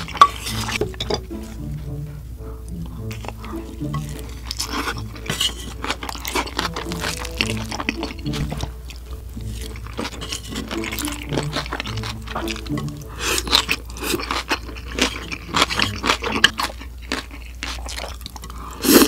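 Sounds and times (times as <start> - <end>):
chewing and crunching food: 0.0 - 19.0
simple background melody: 0.0 - 19.0.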